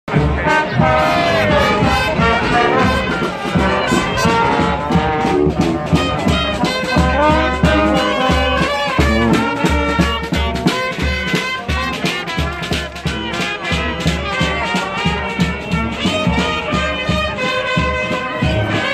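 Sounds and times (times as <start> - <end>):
brass-led swing music: 0.1 - 18.9.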